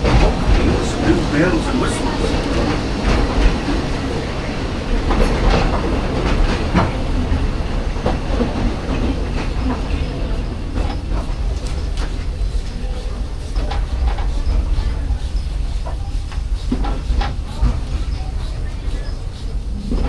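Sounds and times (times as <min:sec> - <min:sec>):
steam train rumbling: 0:00.0 - 0:20.0
wheels clacking on track: 0:00.0 - 0:20.0.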